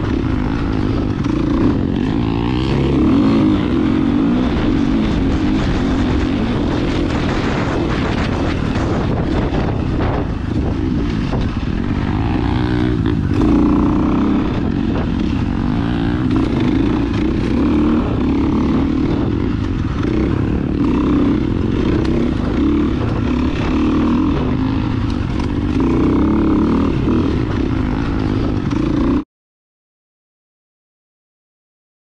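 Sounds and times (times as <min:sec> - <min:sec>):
dirt bike engine running: 0:00.0 - 0:29.2.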